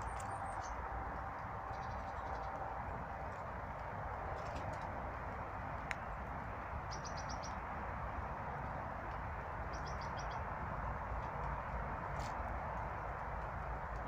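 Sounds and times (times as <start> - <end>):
songbirds chirping: 0.0 - 14.0
steady rushing noise: 0.0 - 14.0.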